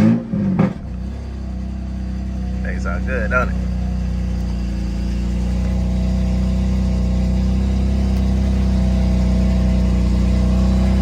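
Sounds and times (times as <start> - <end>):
car engine idling: 0.3 - 11.0.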